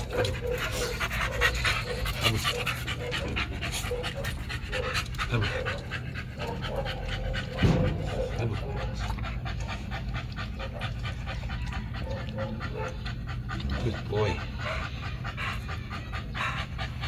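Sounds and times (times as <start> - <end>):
dog panting rapidly: 0.0 - 17.0.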